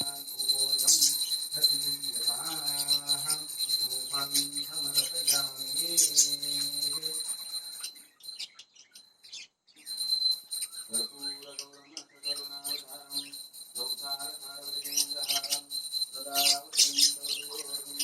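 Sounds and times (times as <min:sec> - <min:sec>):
man chanting: 0:00.0 - 0:07.8, 0:10.9 - 0:18.0
high ringing: 0:00.0 - 0:18.0.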